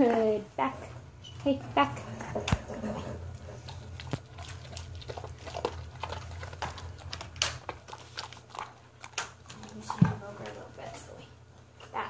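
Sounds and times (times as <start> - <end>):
dog chewing food: 2.0 - 11.8.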